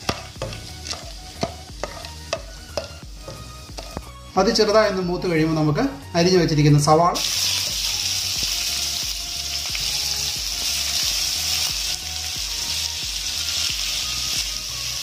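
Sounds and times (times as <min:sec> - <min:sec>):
onions sizzling in hot oil: 0:00.0 - 0:04.3, 0:07.2 - 0:15.0.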